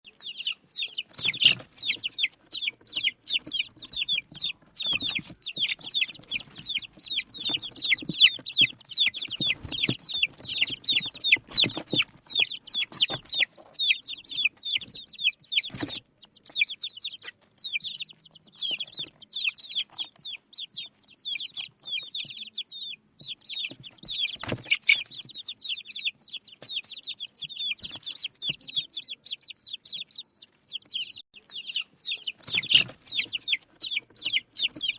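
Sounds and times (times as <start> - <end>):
baby chicks peeping: 0.0 - 34.9.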